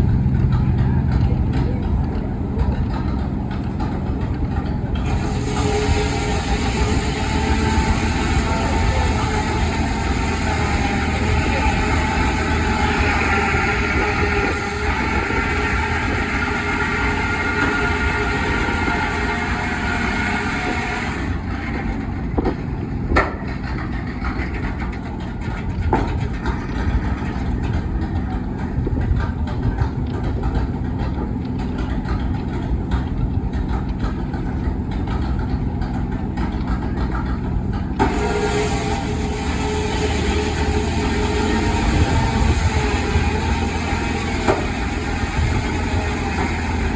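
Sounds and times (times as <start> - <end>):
old engines running: 0.0 - 46.9.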